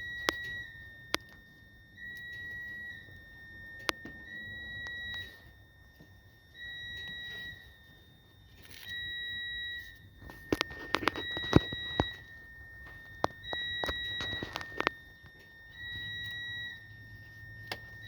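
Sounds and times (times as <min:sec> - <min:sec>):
electronic warning beep: 0:00.0 - 0:18.0.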